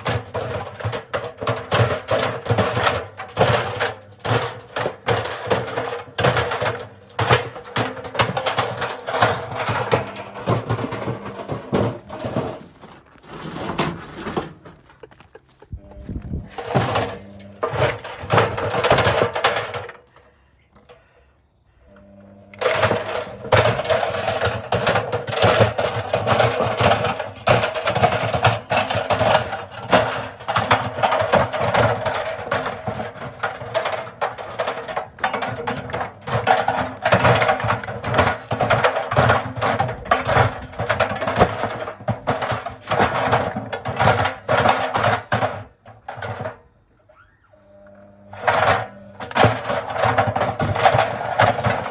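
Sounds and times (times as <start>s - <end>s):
washing machine rattling: 0.0s - 20.1s, 22.6s - 46.8s, 48.4s - 51.9s.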